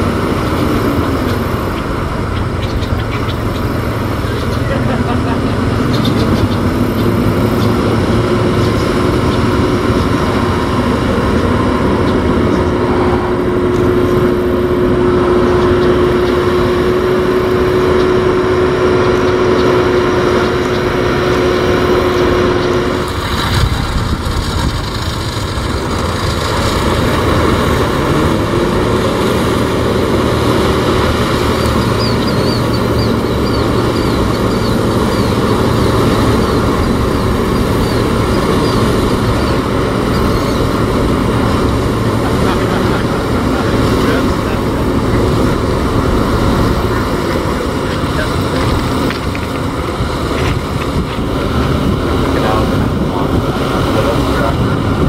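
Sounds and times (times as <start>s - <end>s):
tractor diesel engine running: 0.0s - 55.0s
tyres splashing through water: 0.0s - 55.0s.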